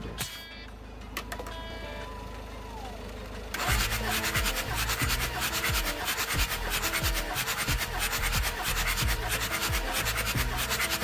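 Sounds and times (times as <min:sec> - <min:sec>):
diesel engine cranking: 0:01.5 - 0:11.0.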